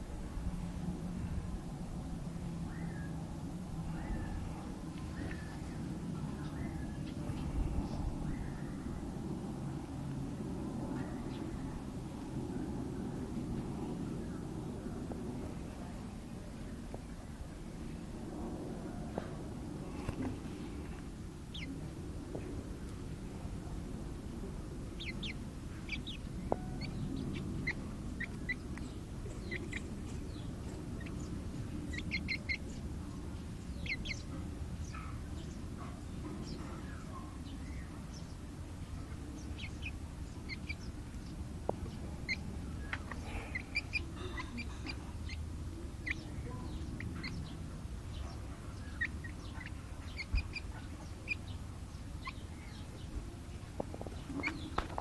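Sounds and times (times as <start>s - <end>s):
low background hum: 0.0s - 55.0s
young chicken peeping: 1.2s - 15.9s, 18.8s - 55.0s.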